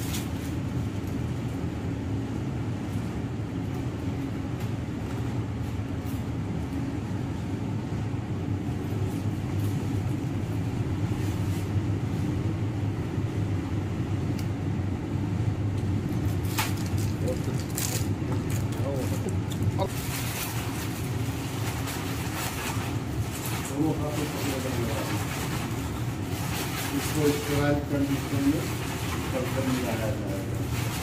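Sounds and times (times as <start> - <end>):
blower humming with rushing air: 0.0 - 31.0.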